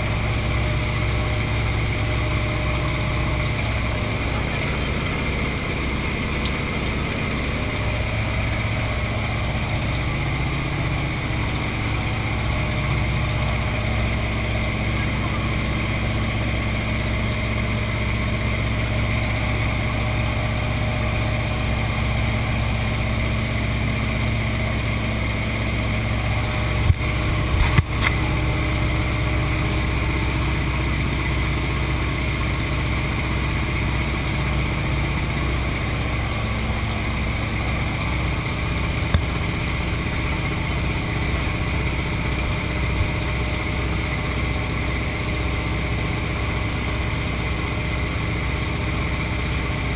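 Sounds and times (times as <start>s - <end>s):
aircraft engine drone: 0.0s - 49.9s.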